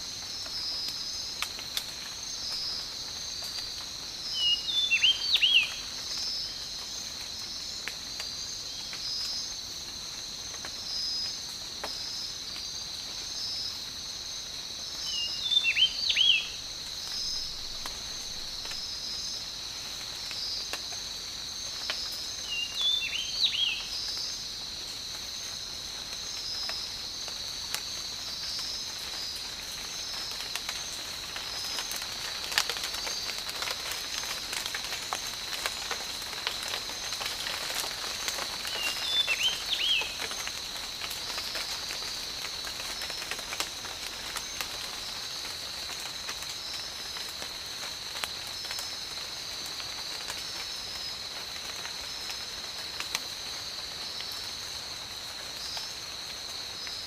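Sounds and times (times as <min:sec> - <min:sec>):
insect chorus with pulsing trill: 0:00.0 - 0:57.0
raindrops pattering: 0:00.0 - 0:57.0.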